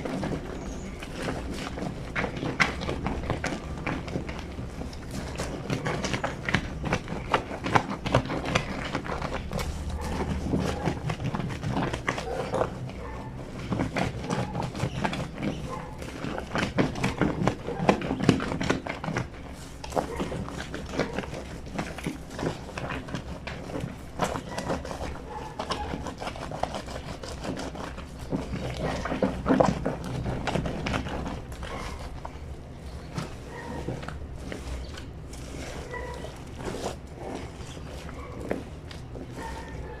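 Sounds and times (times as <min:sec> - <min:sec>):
fabric rubbing and scrubbing: 0:00.0 - 0:40.0.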